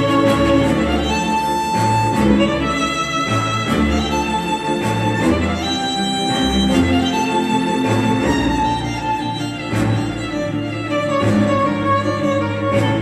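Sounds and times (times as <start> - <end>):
violin and strings music: 0.0 - 13.0.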